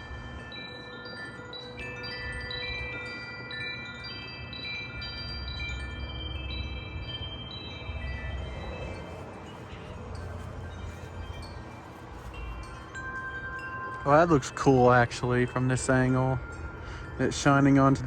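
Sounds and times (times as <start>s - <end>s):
metal wind chimes ringing: 0.0s - 18.0s.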